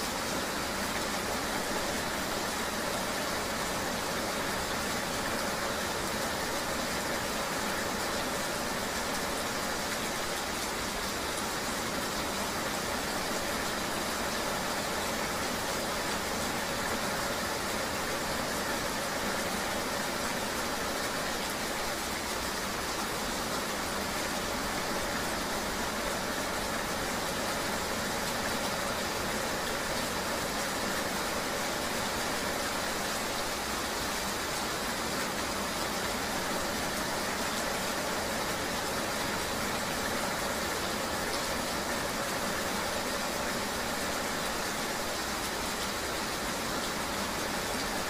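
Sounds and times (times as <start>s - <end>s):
rain hissing: 0.0s - 48.0s.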